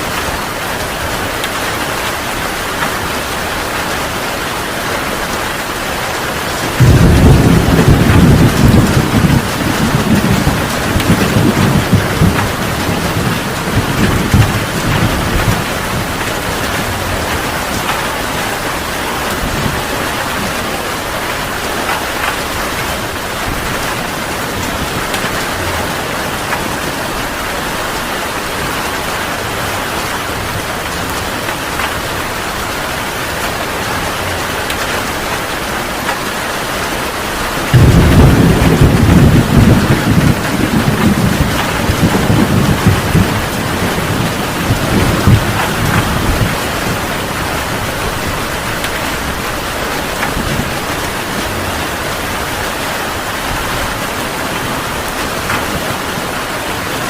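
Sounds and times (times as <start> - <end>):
heavy rain falling: 0.0 - 57.0
thunder clap and rumble: 5.0 - 57.0.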